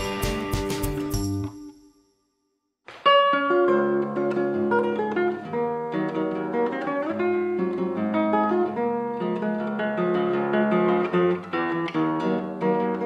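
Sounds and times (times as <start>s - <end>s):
acoustic guitar music: 0.0s - 2.0s, 2.9s - 13.0s.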